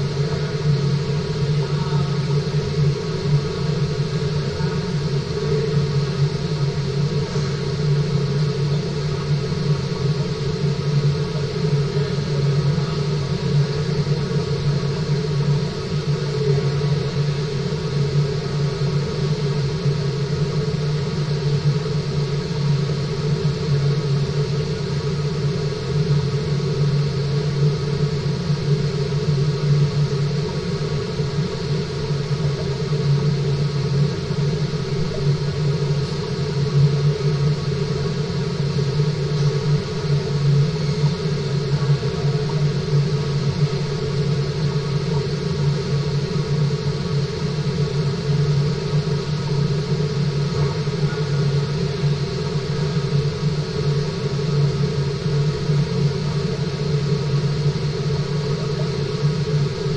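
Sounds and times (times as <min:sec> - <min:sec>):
underwater low hum: 0:00.0 - 0:59.9.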